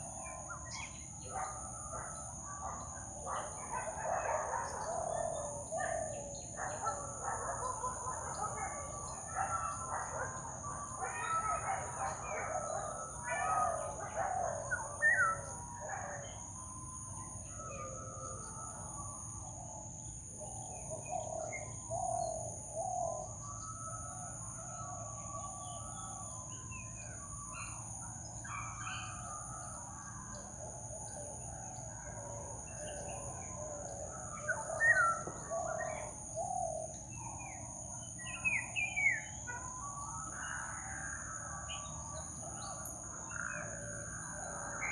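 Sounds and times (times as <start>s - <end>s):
wild birds chirping: 0.0s - 44.9s.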